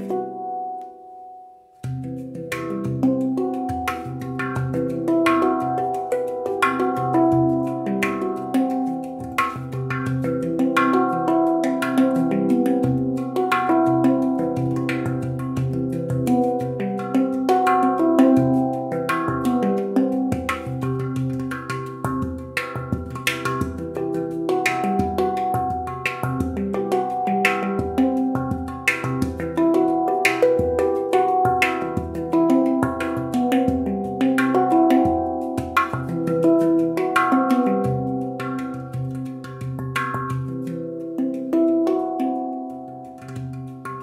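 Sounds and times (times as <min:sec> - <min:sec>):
handpan notes played by fingers: 0:00.0 - 0:44.0.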